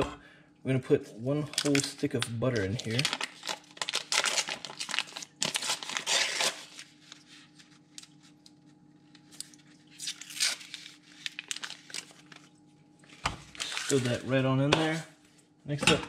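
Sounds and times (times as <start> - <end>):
paper wrapper crinkling: 1.4 - 15.0.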